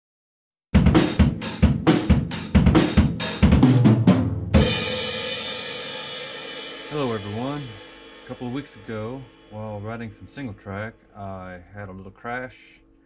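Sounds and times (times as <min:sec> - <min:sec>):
drum kit beat: 0:00.8 - 0:12.0.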